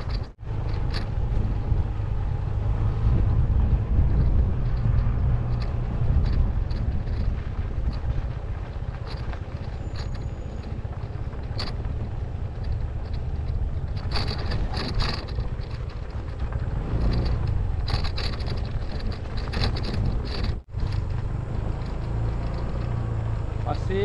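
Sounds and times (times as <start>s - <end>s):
rattling and crunching over bumps: 0.0s - 24.0s
scooter engine running: 0.0s - 24.0s
wind rumble on microphone: 0.0s - 24.0s.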